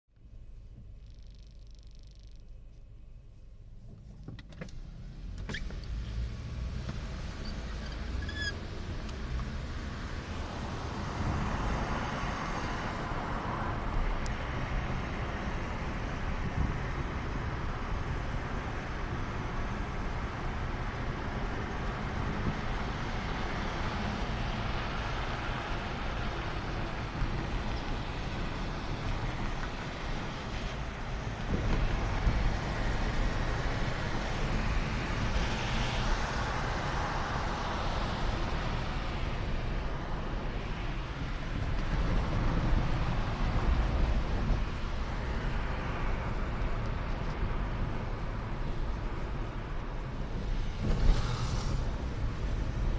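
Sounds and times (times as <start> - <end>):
car engine and tyre rumble: 0.1 - 52.9
road hiss: 4.8 - 52.9.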